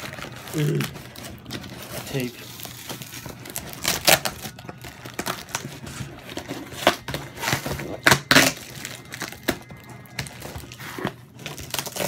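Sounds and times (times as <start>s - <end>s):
plastic packing crinkling: 0.0s - 12.0s.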